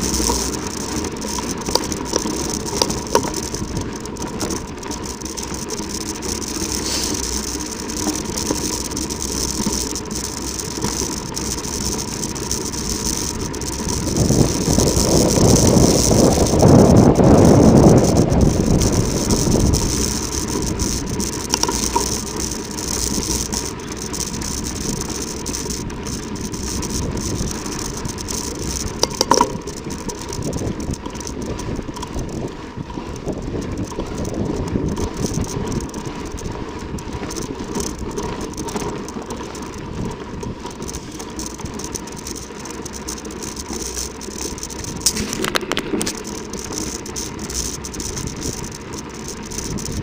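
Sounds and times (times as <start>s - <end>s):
bike rattling: 0.0s - 50.0s
bike tyres on loose ground: 0.0s - 50.0s.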